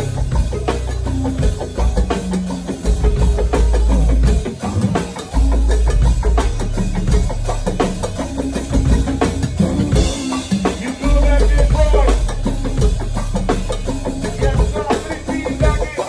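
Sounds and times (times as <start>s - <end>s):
go-go band playing: 0.0s - 16.0s.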